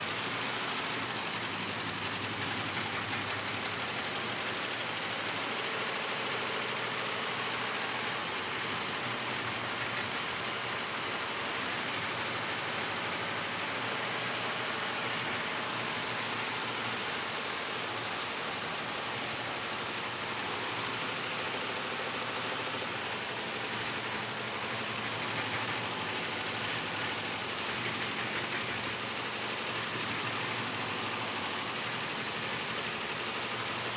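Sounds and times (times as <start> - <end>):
embroidery machine clatter: 0.1 - 33.9.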